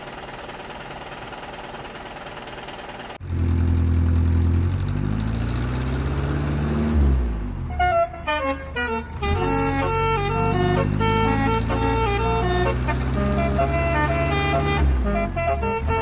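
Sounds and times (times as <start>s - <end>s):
truck engine revving: 3.2s - 16.0s.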